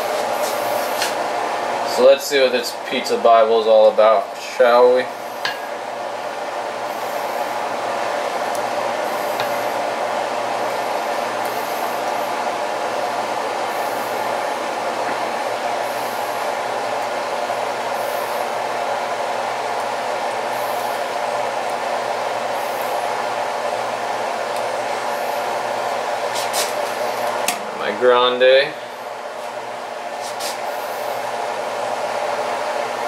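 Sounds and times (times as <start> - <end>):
fan blowing: 0.0 - 33.0.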